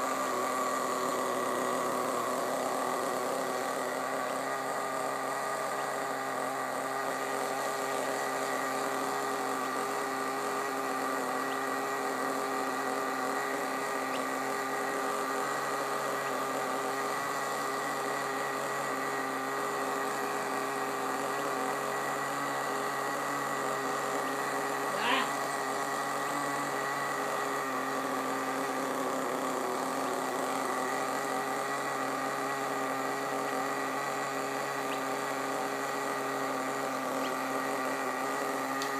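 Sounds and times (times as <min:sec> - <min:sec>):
small nitro engine idling: 0:00.0 - 0:38.9.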